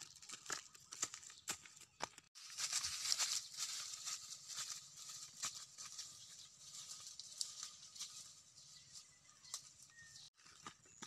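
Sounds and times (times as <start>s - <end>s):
footsteps through dry leaves: 0.0s - 10.5s.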